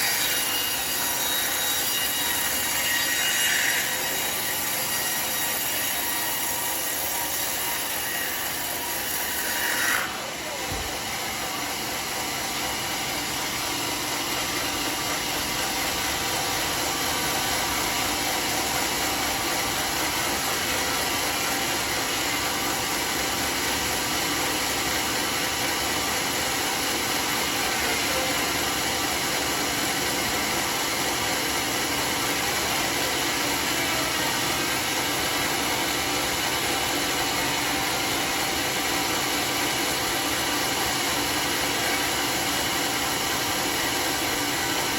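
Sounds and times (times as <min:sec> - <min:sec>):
sawmill sawing a log: 0:00.0 - 0:44.9.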